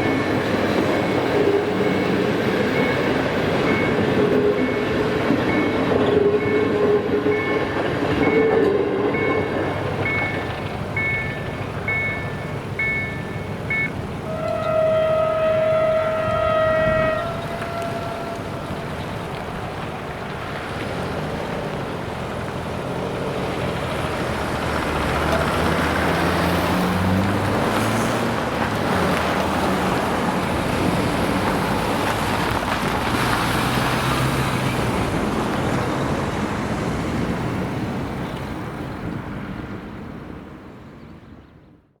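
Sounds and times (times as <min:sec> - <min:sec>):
vehicle engine rumble: 0:00.0 - 0:41.5.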